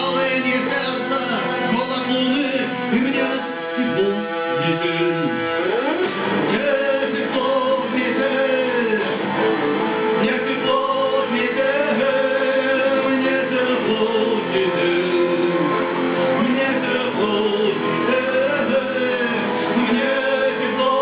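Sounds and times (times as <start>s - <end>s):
guitar: 0.0s - 21.0s
person singing long notes: 0.0s - 21.0s.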